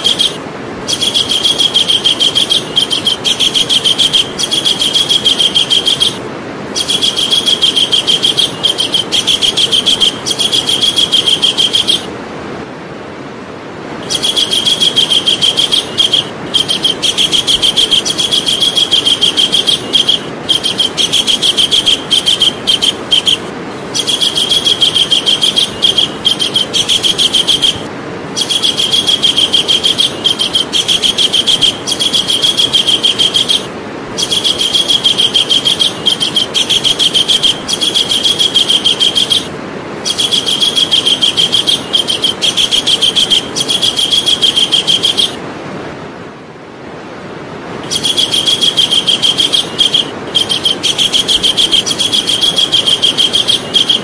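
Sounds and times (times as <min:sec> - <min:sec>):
kingfisher calling: 0:00.0 - 0:12.1, 0:14.0 - 0:45.4, 0:47.8 - 0:54.0
background hiss: 0:00.0 - 0:54.0.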